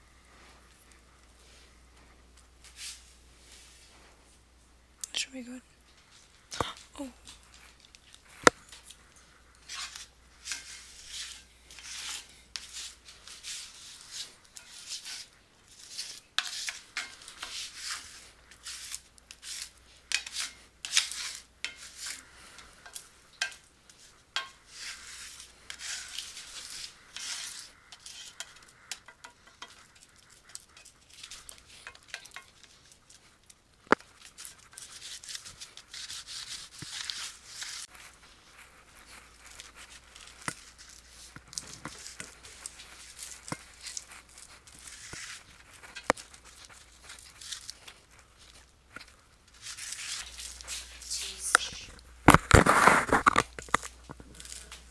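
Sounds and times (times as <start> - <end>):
spatula scraping sticky mixture: 5.9 - 54.9.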